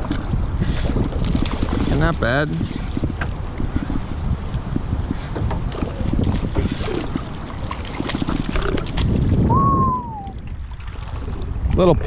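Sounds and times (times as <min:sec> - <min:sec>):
fish thrashing and splashing water: 0:00.0 - 0:09.4, 0:10.4 - 0:11.6
wind buffeting microphone: 0:00.0 - 0:12.0.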